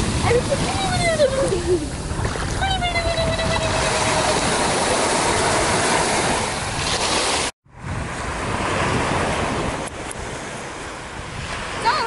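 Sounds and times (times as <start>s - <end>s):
sea surf rushing: 0.0s - 12.0s
wind on microphone: 0.0s - 12.0s.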